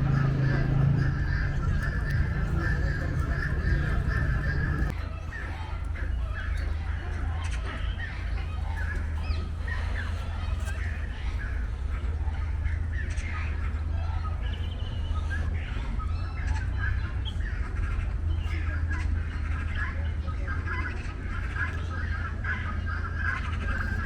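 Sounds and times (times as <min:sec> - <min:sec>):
birds calling and chirping: 0:00.0 - 0:24.0
steady low rumble: 0:00.0 - 0:24.0.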